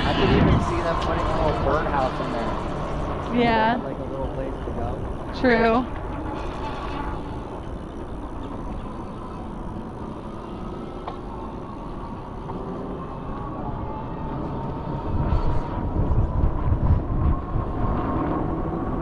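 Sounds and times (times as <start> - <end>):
wind on microphone: 0.0 - 9.8, 13.1 - 19.0
faint whine: 0.0 - 19.0
tyre and road rumble: 0.0 - 19.0.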